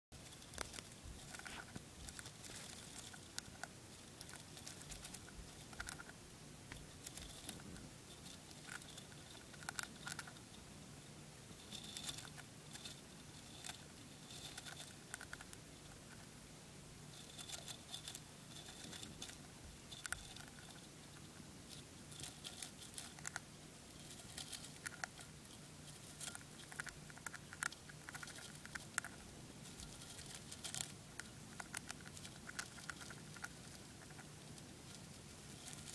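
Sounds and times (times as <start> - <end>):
hamster chewing seeds: 0.1 - 35.9.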